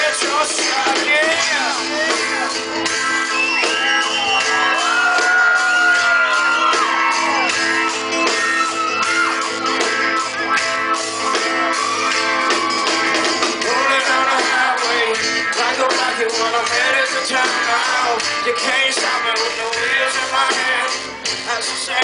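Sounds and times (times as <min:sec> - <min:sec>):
live rock band with guitar: 0:00.0 - 0:22.0
voices singing and shouting: 0:00.0 - 0:22.0.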